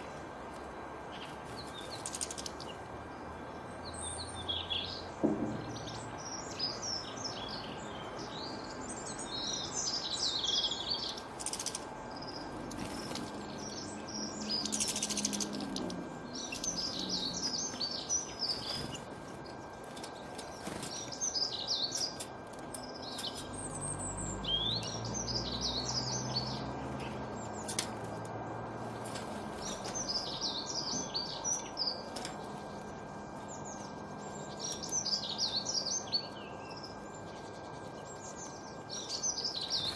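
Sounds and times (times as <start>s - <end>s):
faint steady hum: 0.0s - 39.9s
songbirds chirping and singing: 0.0s - 39.9s.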